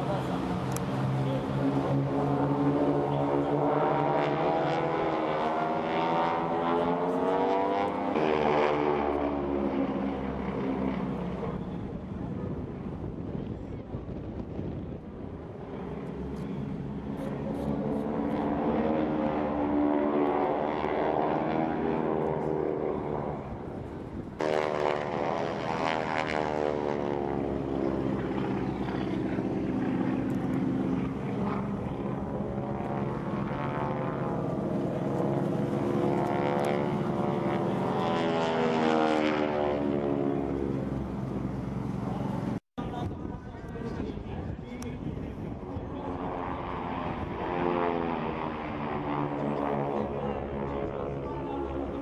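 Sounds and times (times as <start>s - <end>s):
propeller airplane engines droning: 0.0s - 52.0s.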